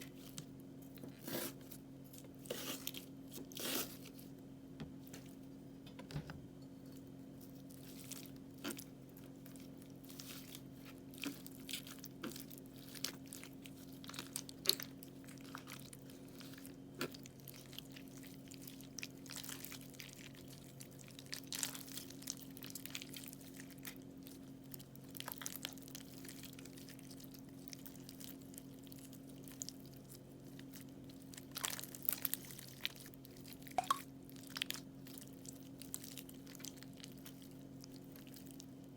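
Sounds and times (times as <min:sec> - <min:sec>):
faint steady hum: 0:00.0 - 0:38.9
crunchy slime crackling: 0:07.4 - 0:38.9.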